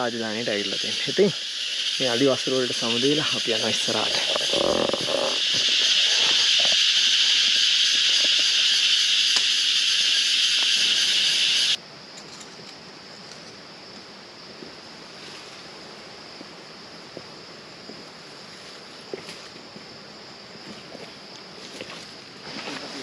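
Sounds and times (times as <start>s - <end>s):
high-pitched rainforest hiss: 0.0s - 23.0s.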